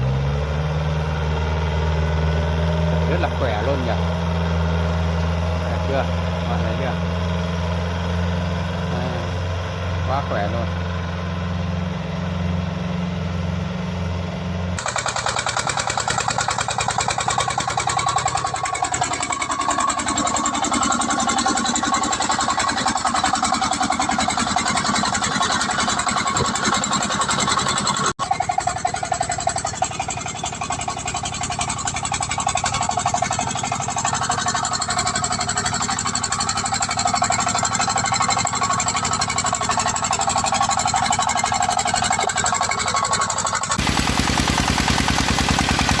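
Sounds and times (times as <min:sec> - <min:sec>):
small diesel engine clattering: 0:00.0 - 0:46.0.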